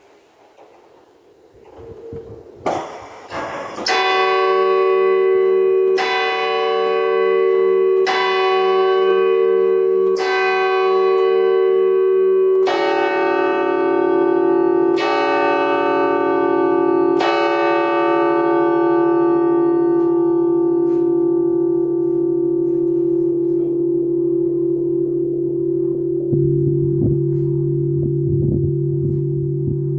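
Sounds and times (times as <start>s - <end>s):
church bell striking: 1.6s - 29.9s
lower-pitched church bell striking: 1.6s - 29.9s.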